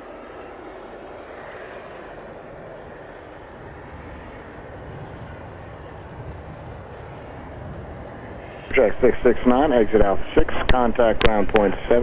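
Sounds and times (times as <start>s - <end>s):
light plane engine drone: 0.0s - 12.0s.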